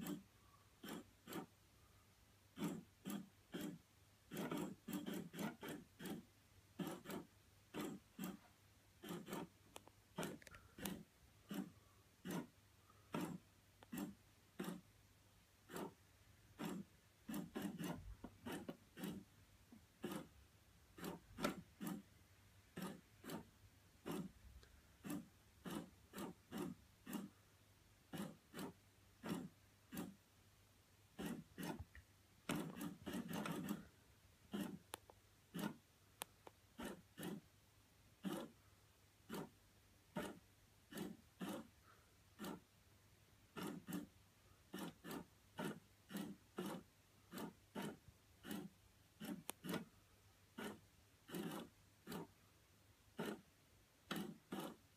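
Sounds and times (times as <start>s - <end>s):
toy motor rasping: 0.0s - 1.6s, 2.5s - 14.9s, 15.6s - 19.3s, 20.0s - 22.1s, 22.7s - 24.4s, 25.0s - 27.4s, 28.1s - 30.2s, 31.2s - 35.9s, 36.7s - 37.5s, 38.2s - 38.6s, 39.2s - 42.7s, 43.5s - 52.4s, 53.1s - 53.5s, 54.1s - 54.9s.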